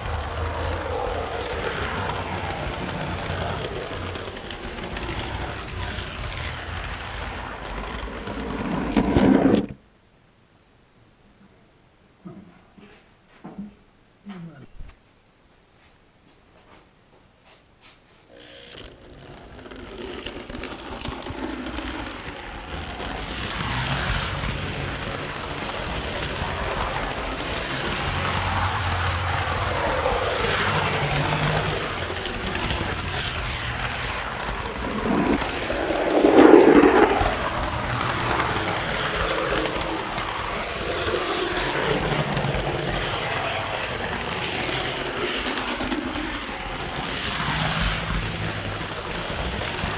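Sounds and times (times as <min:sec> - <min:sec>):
model train wheels rumbling: 0:00.0 - 0:09.8, 0:18.3 - 0:49.9.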